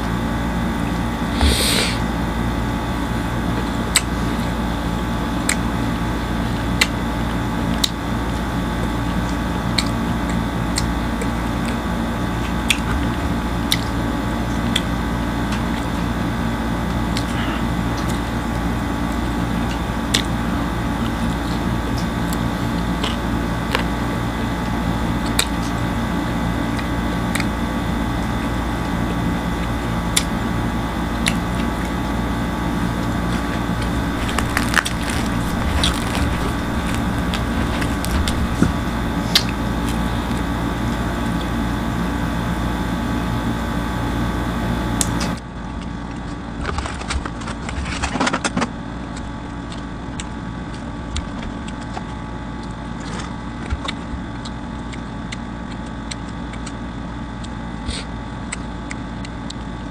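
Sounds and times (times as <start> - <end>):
crunching and chewing pizza: 0.0 - 59.9
steady background hum: 0.0 - 59.9.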